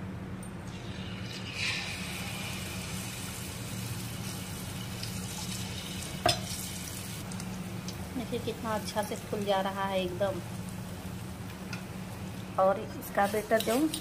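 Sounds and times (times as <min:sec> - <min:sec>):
batter sizzling in hot oil: 0:00.7 - 0:14.0.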